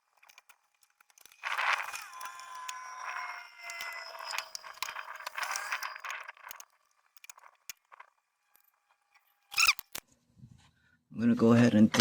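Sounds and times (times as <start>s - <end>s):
sharp clicks: 0.0s - 10.0s.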